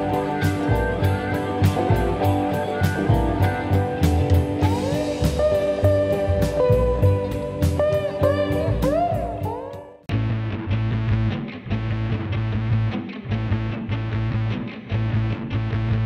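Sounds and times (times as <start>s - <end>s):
electric guitar over a beat: 0.0s - 16.0s.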